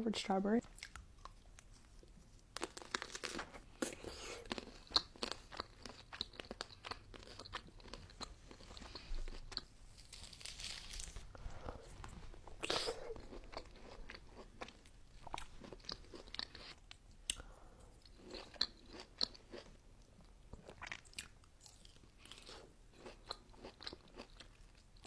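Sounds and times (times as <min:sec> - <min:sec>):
chewing crunchy chocolate: 0:00.6 - 0:25.0.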